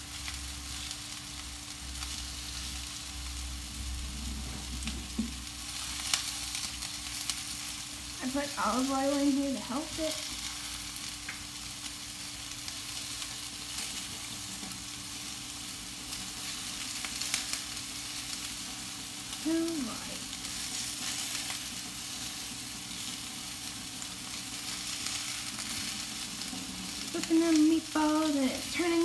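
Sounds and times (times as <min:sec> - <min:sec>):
meatballs sizzling in a pan: 0:00.0 - 0:29.0.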